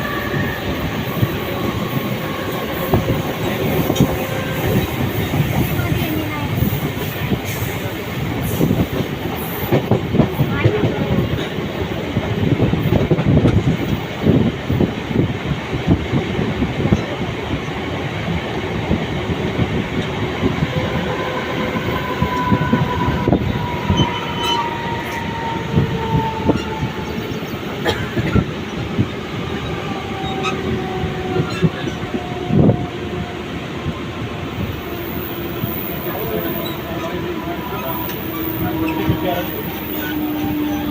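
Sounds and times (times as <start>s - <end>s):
train rumbling on track: 0.0s - 40.9s.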